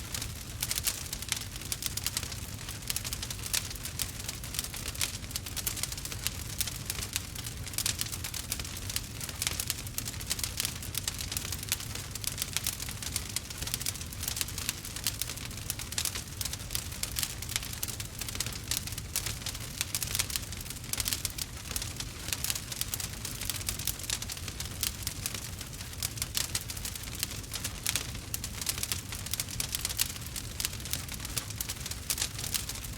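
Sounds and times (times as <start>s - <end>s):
low rumble of flames: 0.0s - 32.9s
wood fire crackling: 0.0s - 32.9s.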